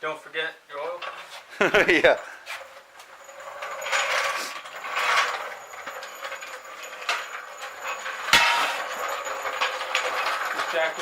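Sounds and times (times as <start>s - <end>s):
metal scraping and rattling: 0.7s - 11.0s
metallic clank: 0.9s - 11.0s.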